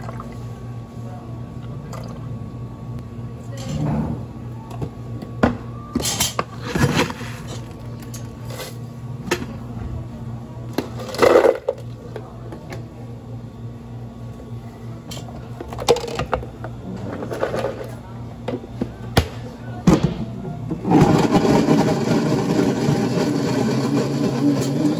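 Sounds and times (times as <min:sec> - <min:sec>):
steady low hum: 0:00.0 - 0:21.1.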